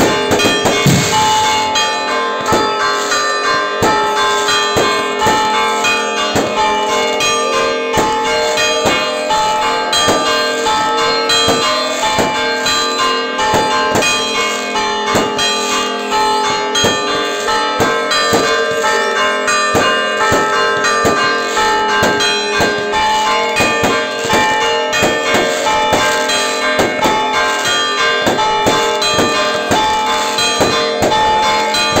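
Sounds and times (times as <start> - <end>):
church bells ringing fast: 0.0 - 32.0
sharp bangs: 0.0 - 32.0.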